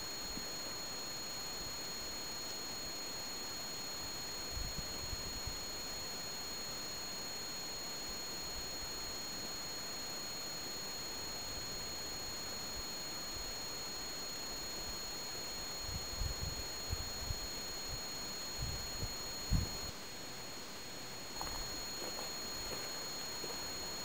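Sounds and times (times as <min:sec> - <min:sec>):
thin high-pitched whine: 0:00.0 - 0:19.9, 0:21.4 - 0:24.0.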